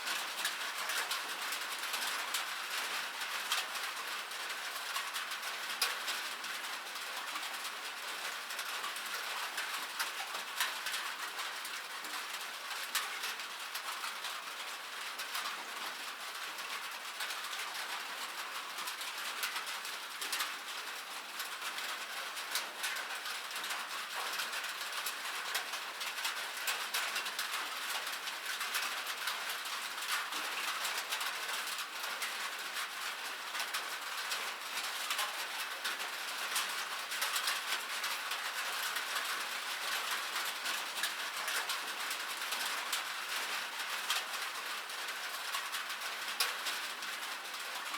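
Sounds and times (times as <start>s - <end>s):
rain on metal: 0.0s - 47.9s.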